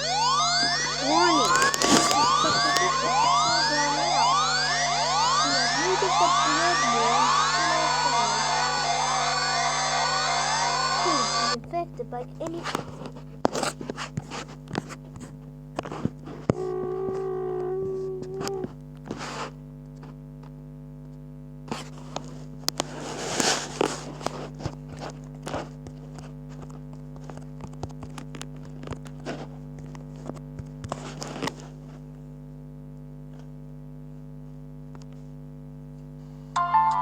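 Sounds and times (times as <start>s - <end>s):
crackles and clicks: 0.0s - 32.1s
low electrical hum: 0.0s - 37.0s.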